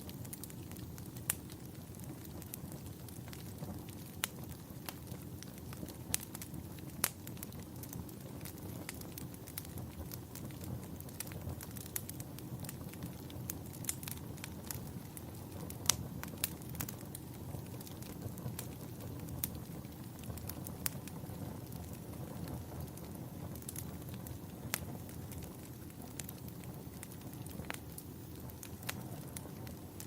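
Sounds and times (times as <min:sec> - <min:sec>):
campfire burning: 0:00.0 - 0:30.0
wood crackling and popping: 0:00.0 - 0:30.0.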